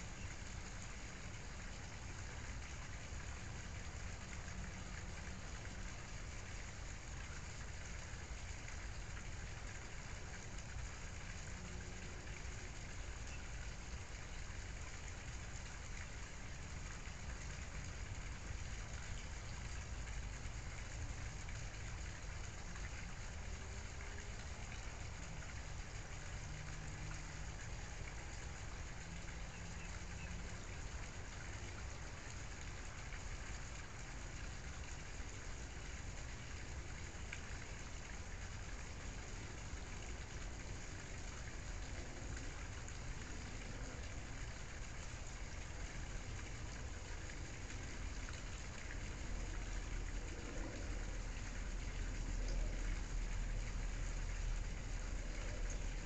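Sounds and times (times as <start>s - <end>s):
low rumbling background noise: 0.0s - 56.0s.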